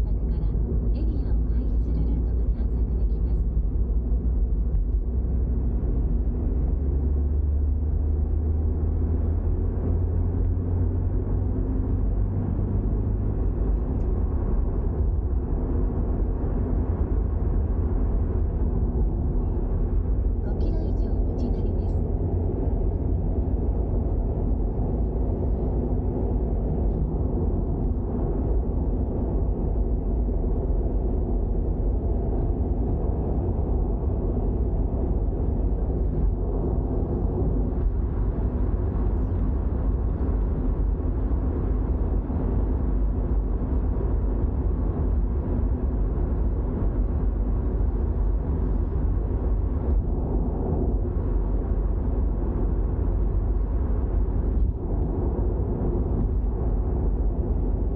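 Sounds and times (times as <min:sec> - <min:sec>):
car engine low rumble: 0:00.0 - 0:57.9
road noise: 0:00.0 - 0:57.9.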